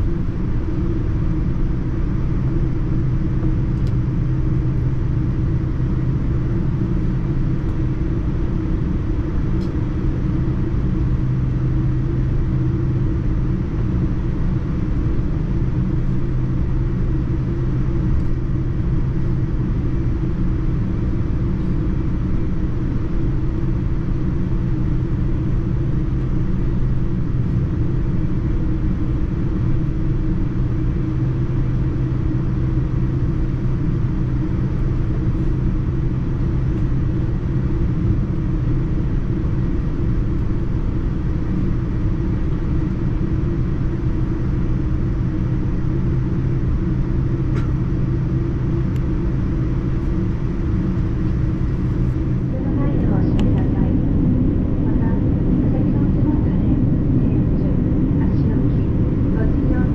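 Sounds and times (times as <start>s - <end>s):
airliner cabin engine rumble: 0.0s - 59.9s
low steady hum: 0.0s - 59.9s.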